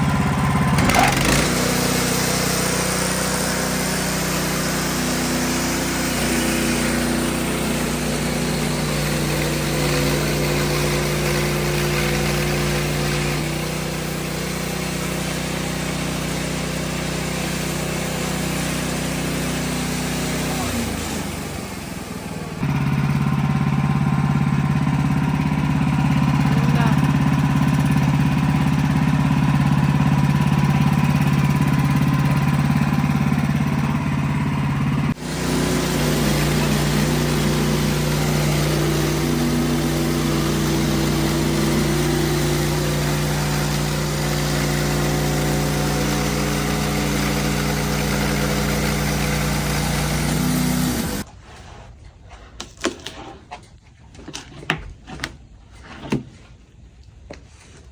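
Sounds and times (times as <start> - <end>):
band sawmill engine running: 0.0 - 51.3.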